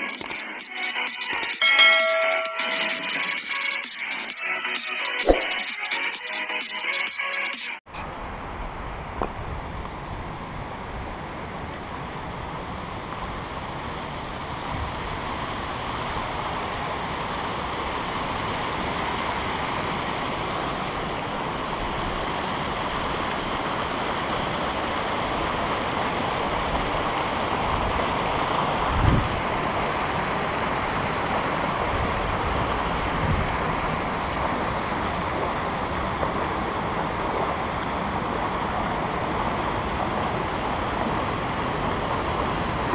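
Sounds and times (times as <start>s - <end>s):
river rushing over weir: 8.1s - 42.9s.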